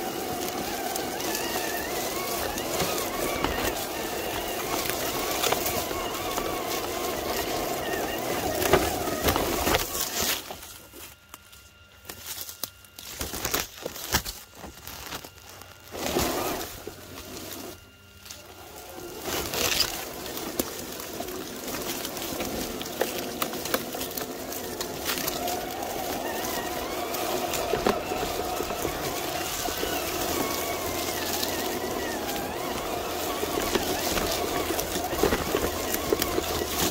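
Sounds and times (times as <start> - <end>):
electric motor and gears whining: 0.0 - 36.9
leaves and twigs scraping: 0.0 - 36.9.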